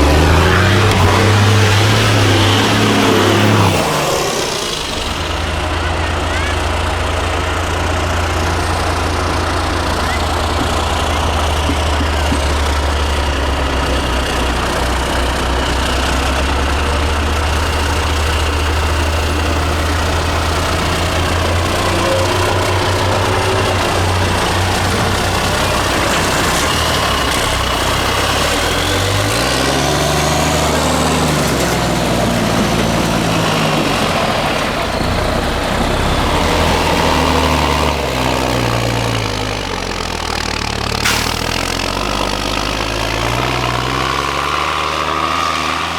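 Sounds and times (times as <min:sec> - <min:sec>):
diesel truck engine revving: 0:00.0 - 0:45.9.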